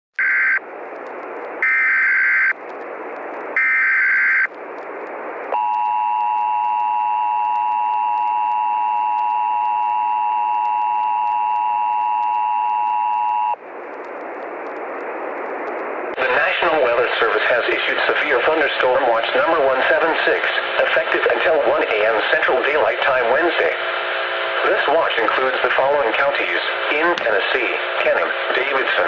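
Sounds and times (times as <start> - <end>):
static hiss: 0.2 - 29.0.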